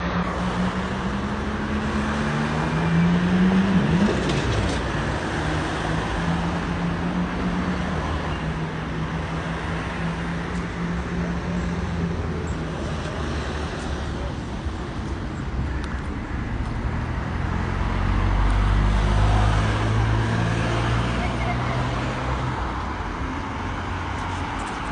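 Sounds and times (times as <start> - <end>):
road traffic: 0.0 - 24.9
vehicle engine humming: 0.0 - 24.9.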